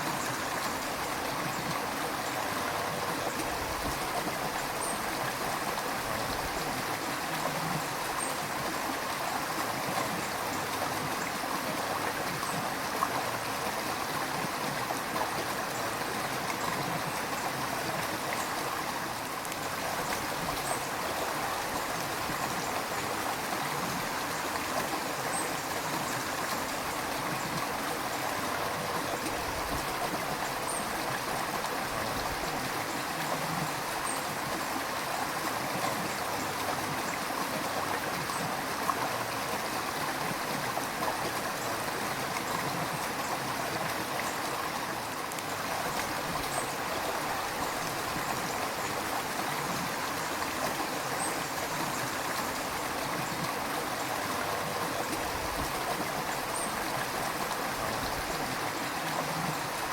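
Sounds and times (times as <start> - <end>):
river water gurgling over stones: 0.0 - 59.9.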